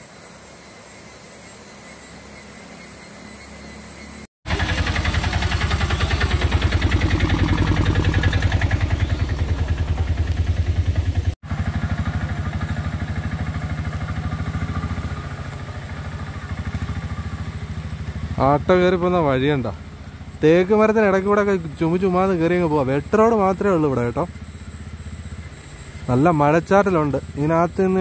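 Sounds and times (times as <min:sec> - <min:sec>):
motorcycle engine running: 0:04.5 - 0:28.0.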